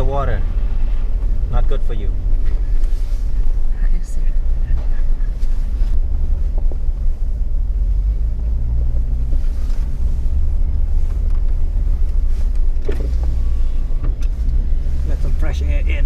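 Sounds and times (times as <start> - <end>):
engine and drivetrain rumble: 0.0 - 16.0.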